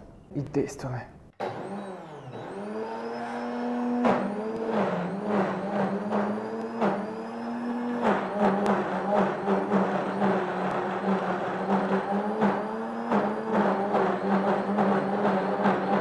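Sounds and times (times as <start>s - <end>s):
blender motor running: 1.4s - 16.0s.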